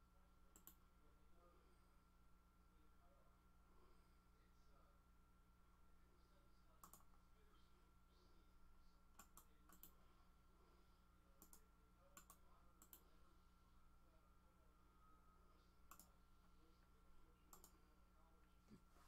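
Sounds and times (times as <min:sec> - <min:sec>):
faint steady high tone: 0:00.0 - 0:19.0.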